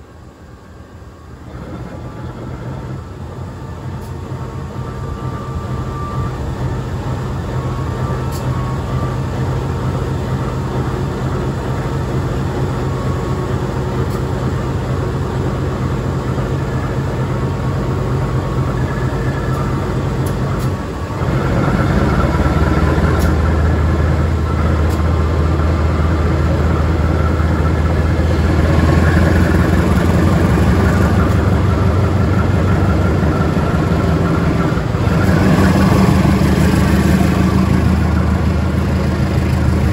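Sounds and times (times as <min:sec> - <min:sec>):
locomotive engine drone: 0:00.0 - 0:39.9
train rumble: 0:00.0 - 0:39.9.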